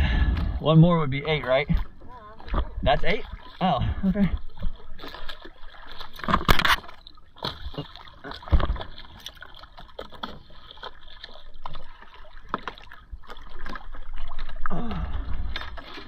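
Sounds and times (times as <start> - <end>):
seawater sloshing and splashing: 0.0 - 16.0.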